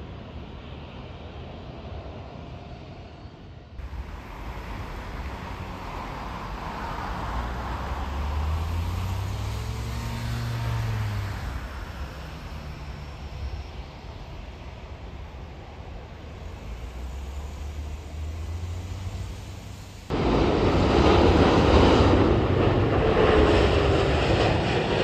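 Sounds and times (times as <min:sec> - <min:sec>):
jet airliner engine rumble: 0:00.0 - 0:25.0.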